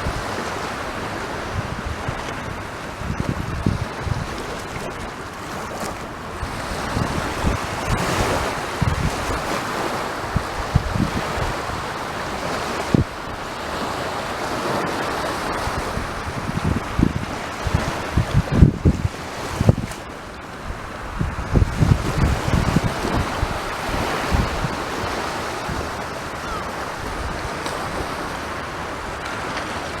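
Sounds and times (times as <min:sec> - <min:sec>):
sea surf breaking on beach: 0:00.0 - 0:30.0
wind buffeting microphone: 0:00.0 - 0:30.0.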